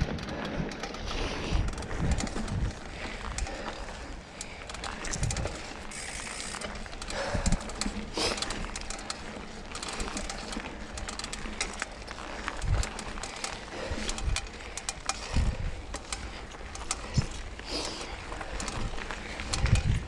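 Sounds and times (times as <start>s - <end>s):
bike clicks and rattles: 0.0s - 20.0s
bike tyre noise on dirt: 0.0s - 20.0s.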